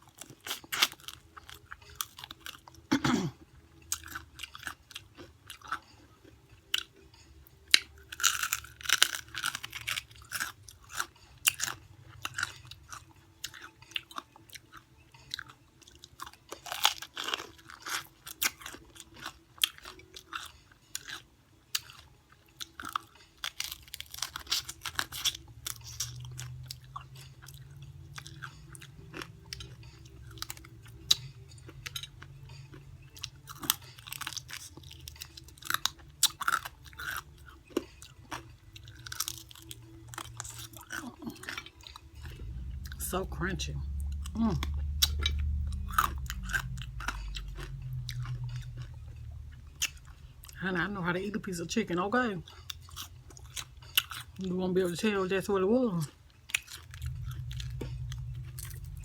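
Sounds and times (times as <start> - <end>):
crunching and chewing fried chicken: 0.0 - 59.0.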